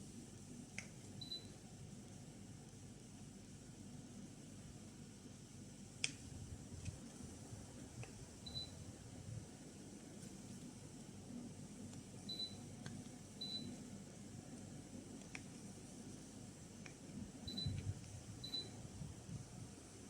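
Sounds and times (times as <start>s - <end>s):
air conditioner humming: 0.0s - 20.0s.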